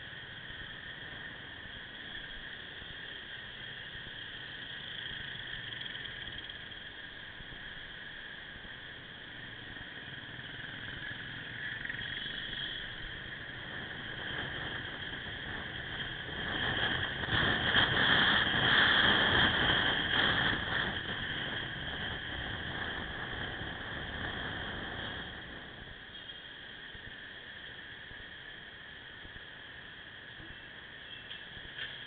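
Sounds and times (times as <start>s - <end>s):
traffic noise: 0.0s - 32.0s
wind hiss: 0.0s - 32.0s.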